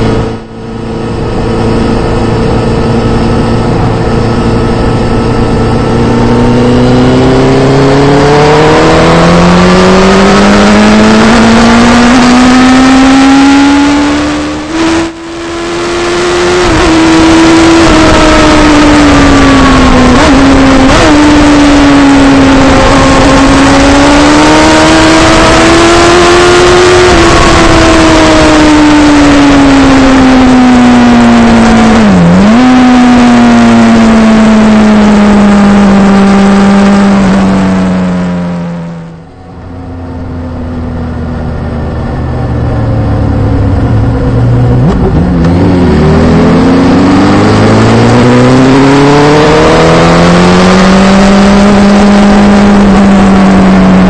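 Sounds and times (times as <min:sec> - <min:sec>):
motorcycle engine at speed: 0:00.0 - 0:54.0.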